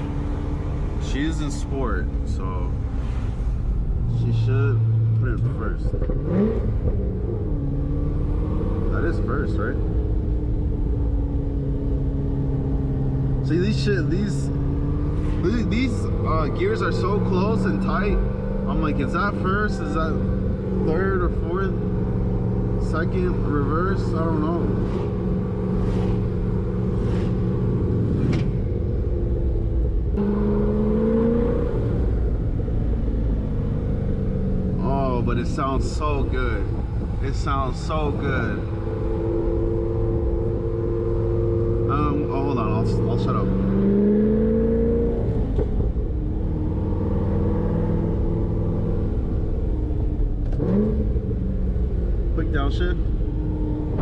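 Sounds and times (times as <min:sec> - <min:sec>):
car engine under load: 0:00.0 - 0:54.0
deep exhaust rumble: 0:00.0 - 0:54.0.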